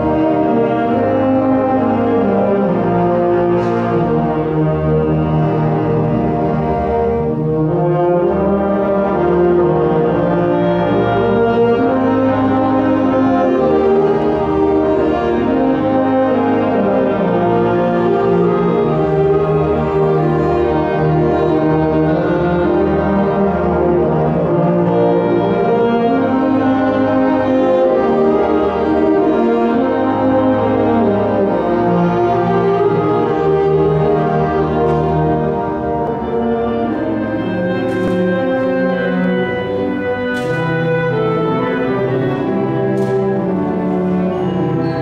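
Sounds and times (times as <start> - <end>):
wind band playing held chords: 0.0 - 45.0.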